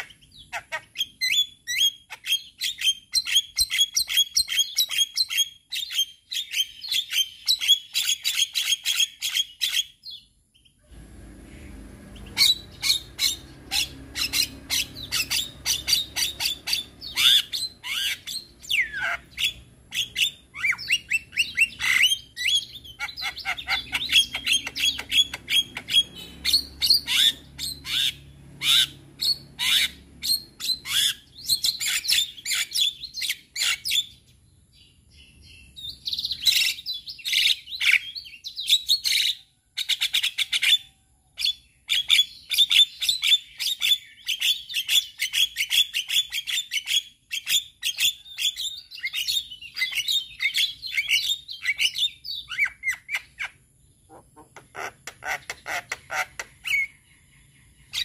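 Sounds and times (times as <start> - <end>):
bird singing: 0.0 - 10.8, 11.4 - 58.0.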